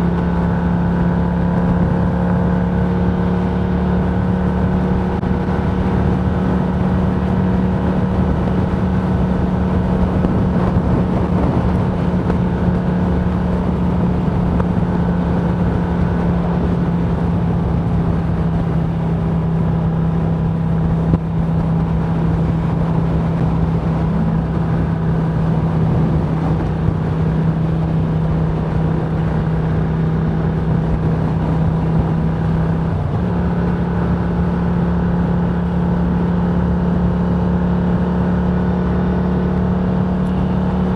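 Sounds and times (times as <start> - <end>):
motorcycle cruising: 0.0 - 40.9
wind rushing over microphone: 0.0 - 40.9.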